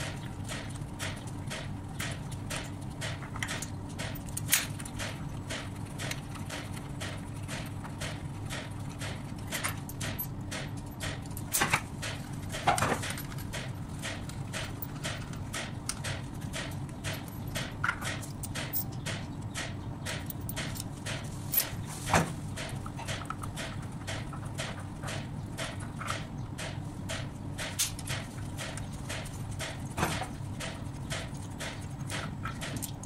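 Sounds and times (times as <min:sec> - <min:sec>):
machinery humming: 0:00.0 - 0:33.0
mechanical ticking: 0:00.0 - 0:33.0
sharp metal knocks: 0:00.0 - 0:33.0.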